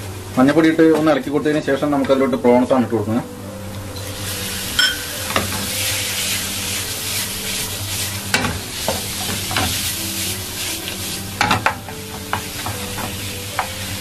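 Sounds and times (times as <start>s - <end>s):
prawns sizzling in oil: 2.6s - 14.0s.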